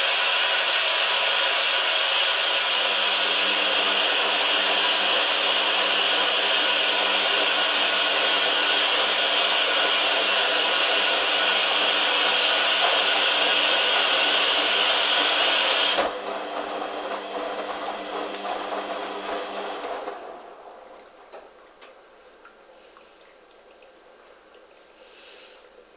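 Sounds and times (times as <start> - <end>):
washing machine rushing noise: 0.0 - 21.4.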